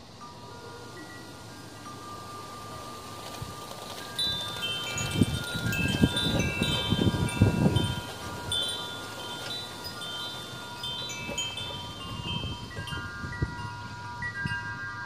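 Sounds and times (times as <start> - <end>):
wind chimes ringing: 0.0 - 15.0
wind buffeting microphone: 2.7 - 15.0.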